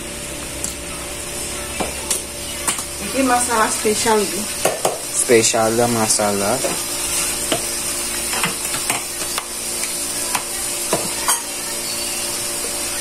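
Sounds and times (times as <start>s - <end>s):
paste sizzling in oil: 1.1s - 13.0s.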